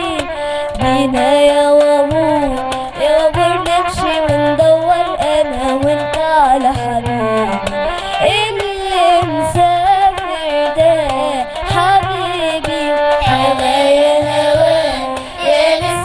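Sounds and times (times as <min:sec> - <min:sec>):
hand drum beats: 0:00.0 - 0:16.0.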